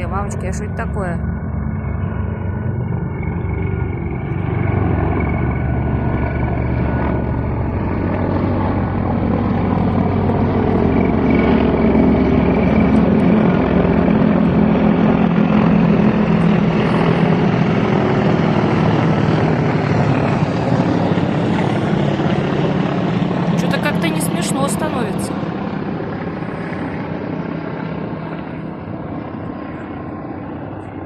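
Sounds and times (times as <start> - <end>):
helicopter rotor blades beating: 0.0 - 31.0
turbine engine drone: 0.0 - 31.0.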